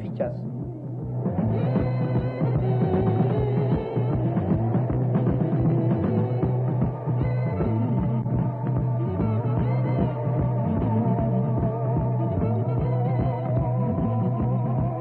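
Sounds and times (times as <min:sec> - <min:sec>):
rock music with steady beat: 0:00.0 - 0:15.0.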